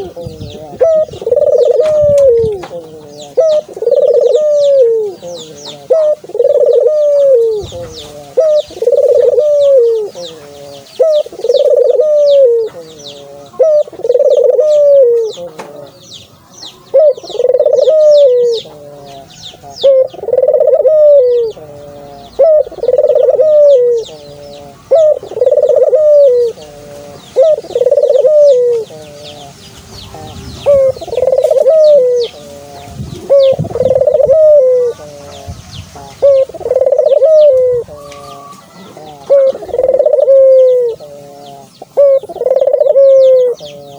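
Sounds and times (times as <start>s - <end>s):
doves cooing: 0.0s - 43.9s
small birds chirping: 0.0s - 43.9s.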